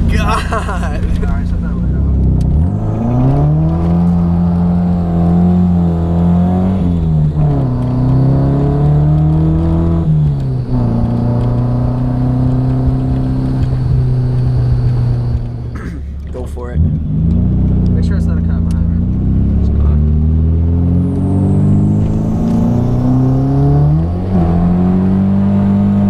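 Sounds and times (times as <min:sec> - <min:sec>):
car engine revving hard: 0:00.0 - 0:15.8, 0:16.7 - 0:26.0.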